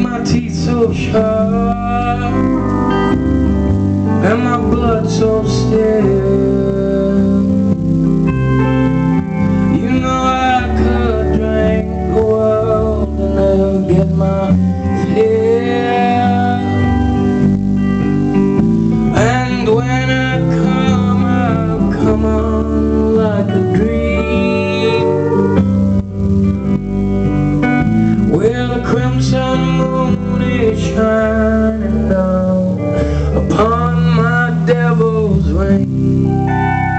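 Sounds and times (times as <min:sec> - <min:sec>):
man singing: 0:00.0 - 0:03.2, 0:04.0 - 0:08.2, 0:09.4 - 0:17.6, 0:19.0 - 0:25.8, 0:28.1 - 0:36.4
guitar: 0:00.0 - 0:36.9
sustained low notes: 0:00.0 - 0:36.9.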